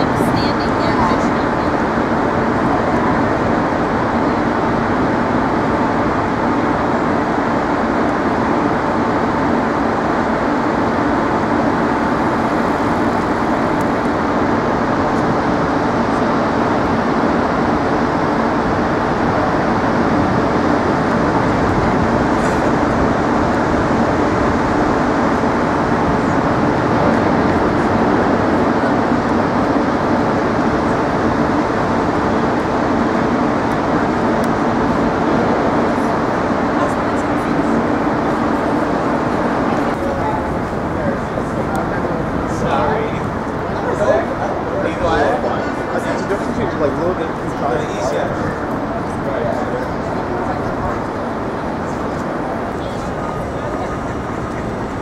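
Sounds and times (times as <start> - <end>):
city noise rushing din: 0.0 - 55.0.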